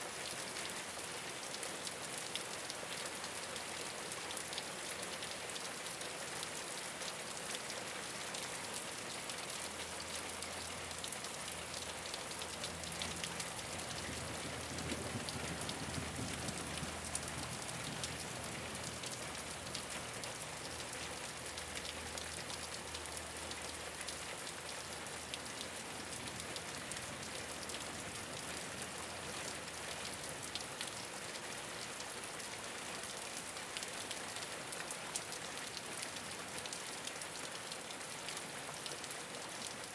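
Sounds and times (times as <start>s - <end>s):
rain on a rooftop: 0.0s - 39.9s.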